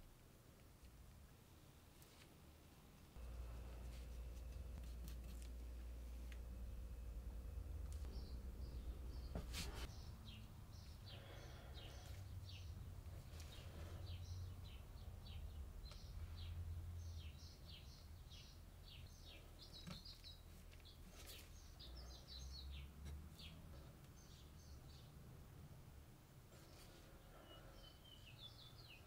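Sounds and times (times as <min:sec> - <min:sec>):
low steady hum: 0:00.0 - 0:29.0
faint birds chirping: 0:03.0 - 0:29.0.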